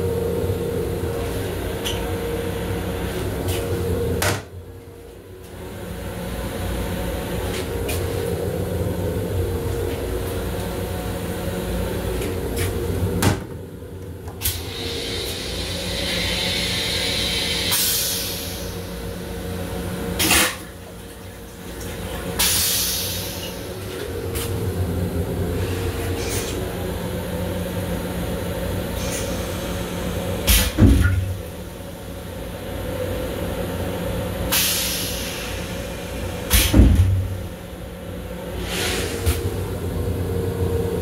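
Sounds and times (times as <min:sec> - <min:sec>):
train car hum: 0:00.0 - 0:41.0.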